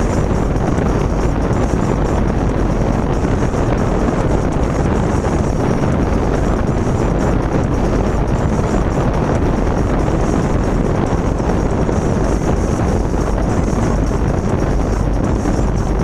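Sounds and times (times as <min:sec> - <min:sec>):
wind rushing through car window: 0:00.0 - 0:16.0.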